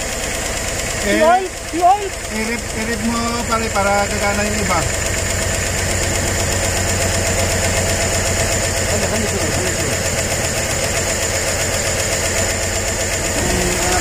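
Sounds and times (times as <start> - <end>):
rough car engine idling: 0.0 - 14.0.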